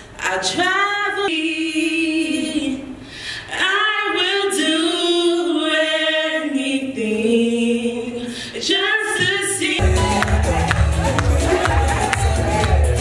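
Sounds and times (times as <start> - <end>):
women singing unaccompanied: 0.2 - 10.8.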